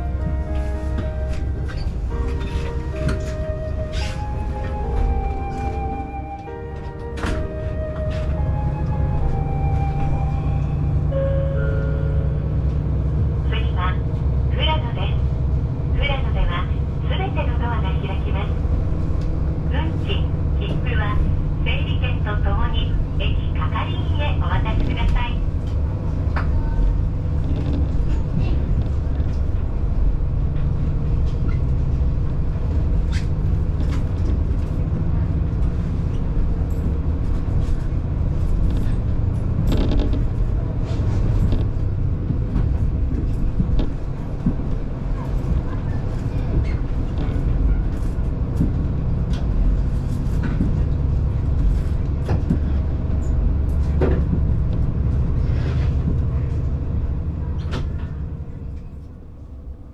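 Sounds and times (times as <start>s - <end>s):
railcar engine rumble: 0.0s - 59.9s.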